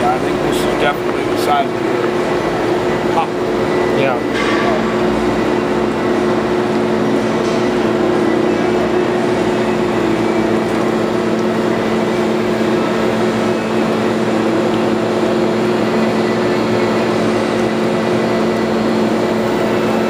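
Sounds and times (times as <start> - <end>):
dewatering machine humming: 0.0 - 20.0.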